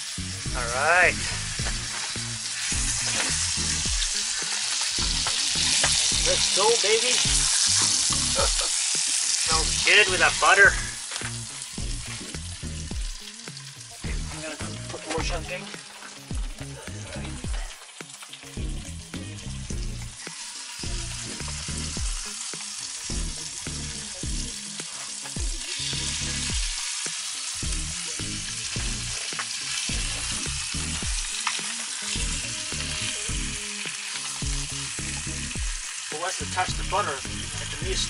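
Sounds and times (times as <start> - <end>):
fish frying in butter: 0.0 - 38.0.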